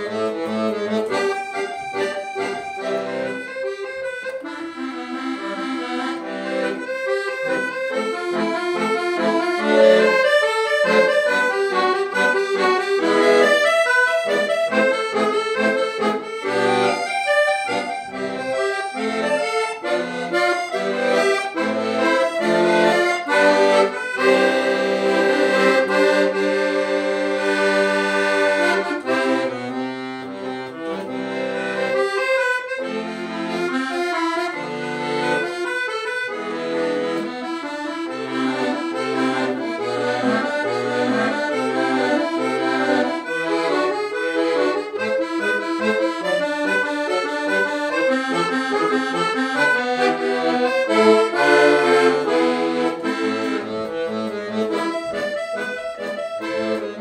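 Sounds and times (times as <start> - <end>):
piano accordion: 0.0 - 57.0.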